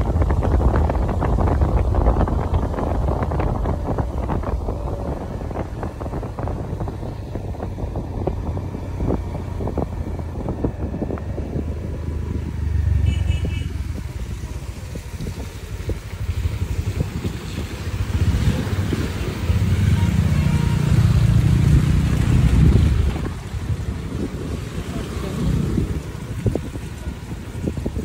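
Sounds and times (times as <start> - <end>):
motorcycle engine: 0.0 - 28.0
wind buffeting microphone: 0.0 - 28.0.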